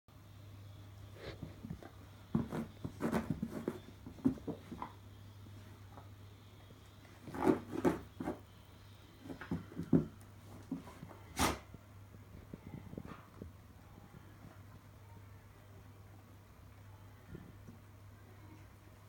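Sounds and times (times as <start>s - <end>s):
faint low hum: 0.1s - 19.0s.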